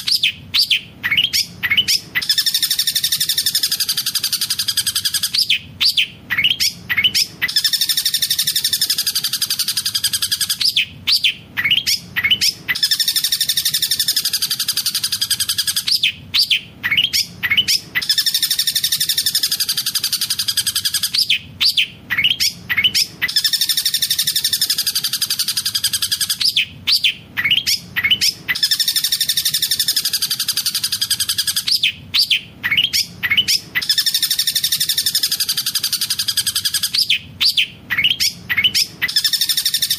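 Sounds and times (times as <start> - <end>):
bird high trill: 0.0 - 39.9.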